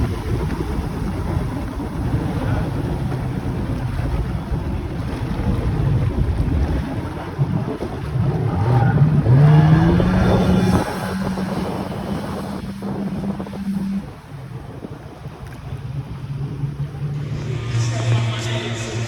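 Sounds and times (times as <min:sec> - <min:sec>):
wind buffeting the microphone: 0:00.0 - 0:18.4
jet ski engine speeding up: 0:00.0 - 0:19.0.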